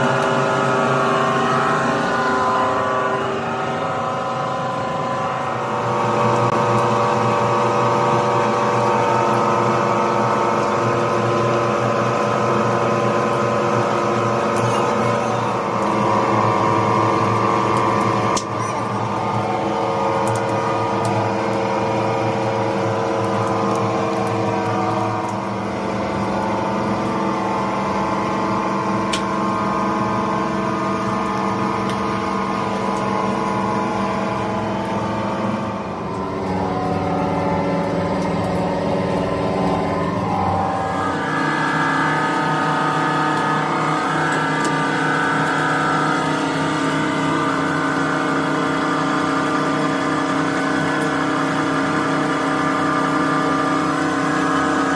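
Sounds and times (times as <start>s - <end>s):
mixing mill machine drone: 0.0s - 54.9s.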